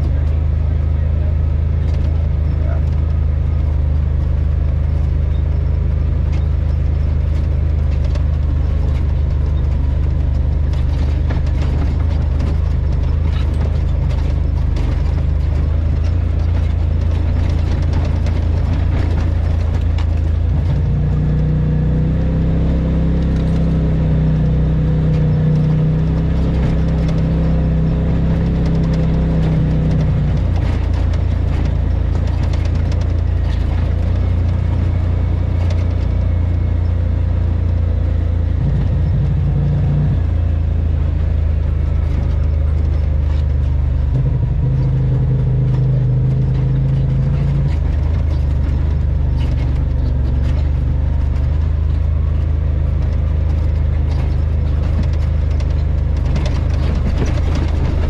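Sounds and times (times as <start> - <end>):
low engine drone: 0.0 - 58.0
vehicle rattling over bumps: 0.0 - 58.0.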